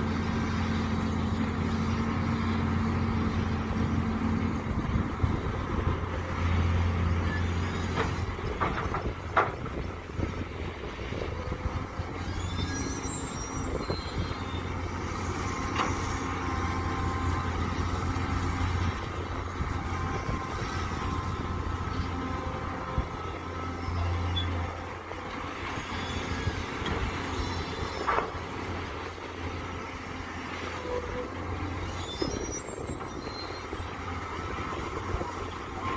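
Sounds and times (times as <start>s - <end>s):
metallic squeals and scrapes: 0.0s - 9.1s, 11.3s - 35.9s
excavator engine droning: 0.0s - 35.9s.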